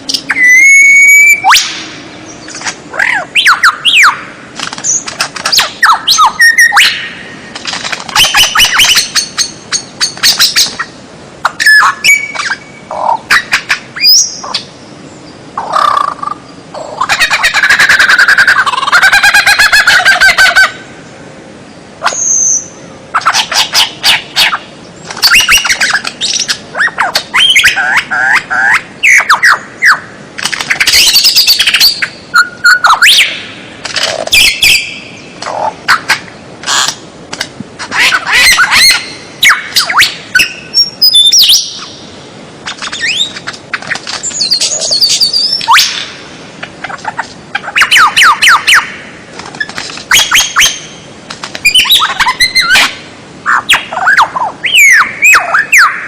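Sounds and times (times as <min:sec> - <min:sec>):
songbird singing buzzy trills: 0:00.0 - 0:37.1, 0:37.8 - 0:56.0.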